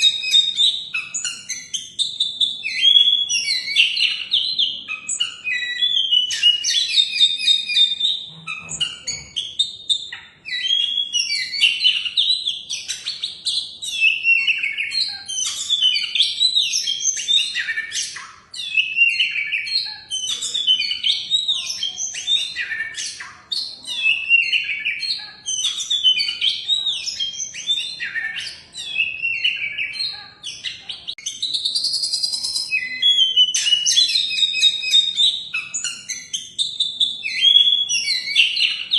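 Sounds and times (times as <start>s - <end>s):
bird whistles and chirps: 0.0s - 38.9s.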